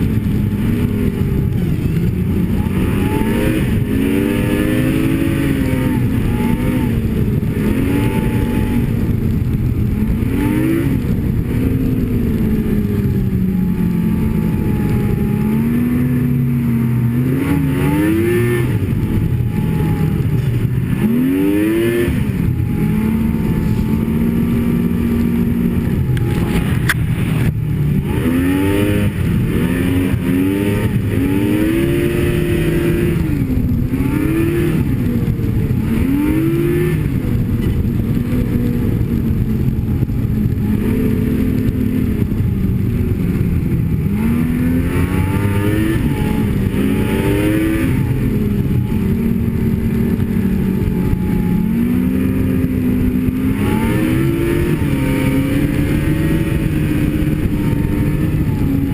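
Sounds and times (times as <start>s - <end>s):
snowmobile engine running: 0.0s - 58.9s
track and wind noise: 0.0s - 58.9s.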